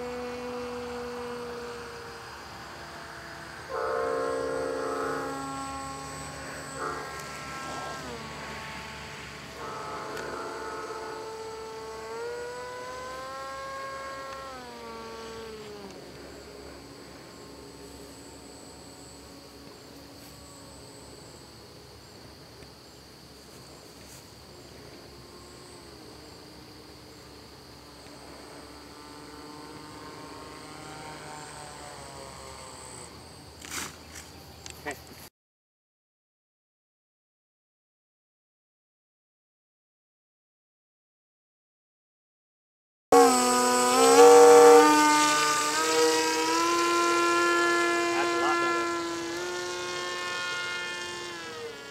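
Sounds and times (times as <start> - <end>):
model plane motor whining: 0.0 - 35.0, 43.1 - 51.9
crickets chirring: 0.0 - 35.3, 43.2 - 51.9.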